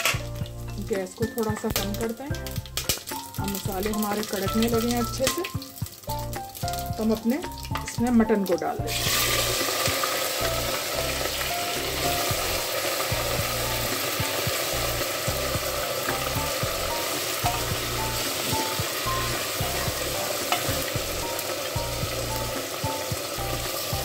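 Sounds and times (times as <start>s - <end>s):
meat sizzling in oil: 0.0s - 24.0s.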